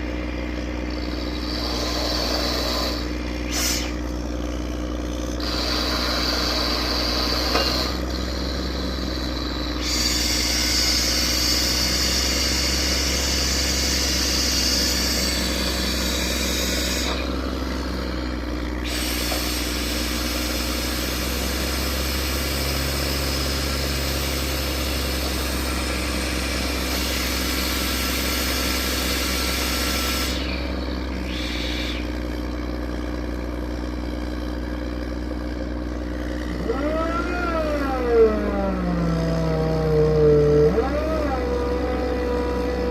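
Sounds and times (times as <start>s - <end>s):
drilling machine engine humming: 0.0s - 42.9s.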